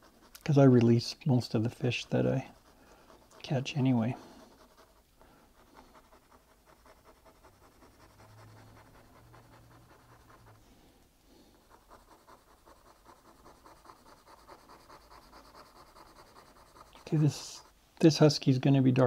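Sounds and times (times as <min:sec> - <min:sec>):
pencil scratching on paper: 0:00.0 - 0:10.7, 0:11.4 - 0:17.8.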